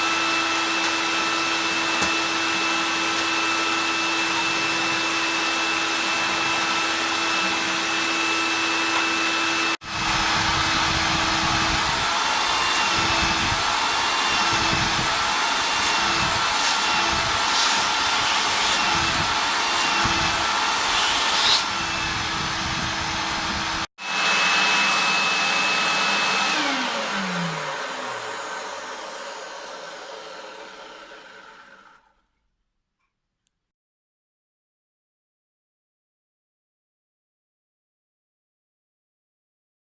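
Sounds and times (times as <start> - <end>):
vacuum cleaner motor whine: 0.0 - 32.2.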